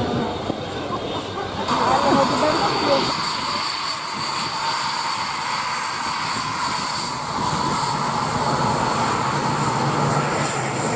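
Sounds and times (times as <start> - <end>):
jet engine whining and rumbling: 0.0 - 10.9.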